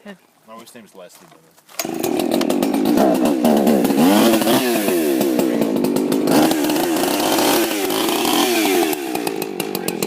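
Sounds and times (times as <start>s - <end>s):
chainsaw engine revving: 1.8s - 10.0s.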